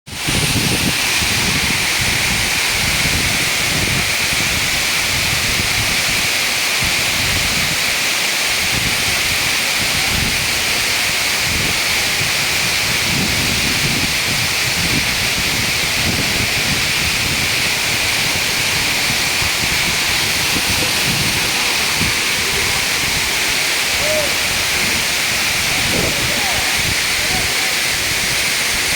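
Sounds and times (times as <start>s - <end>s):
waterfall rushing: 0.1s - 28.9s.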